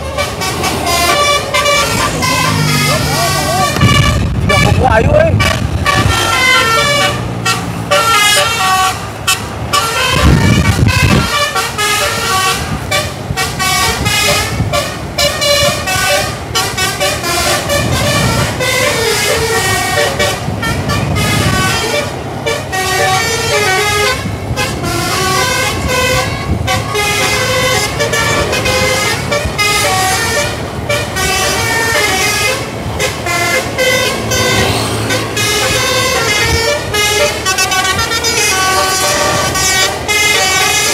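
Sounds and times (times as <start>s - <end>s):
bus engine: 0.0s - 40.9s
multi-tone bus horn melody: 0.0s - 40.9s.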